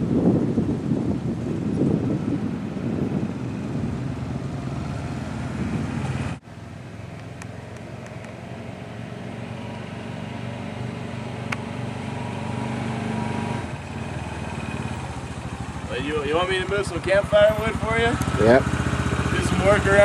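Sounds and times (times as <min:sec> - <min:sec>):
atv engine humming: 0:00.0 - 0:20.0.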